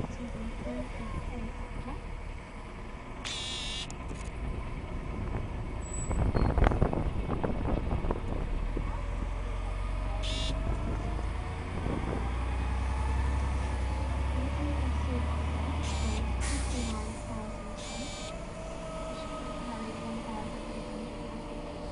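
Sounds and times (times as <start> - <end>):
rumble of vehicles and engines: 0.0 - 21.9.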